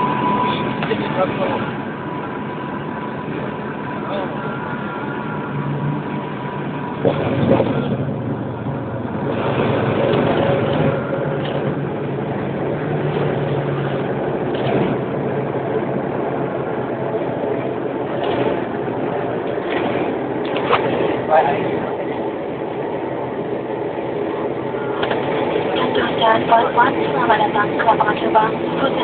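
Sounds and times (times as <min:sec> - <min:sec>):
airliner engines and airflow hum: 0:00.0 - 0:29.0.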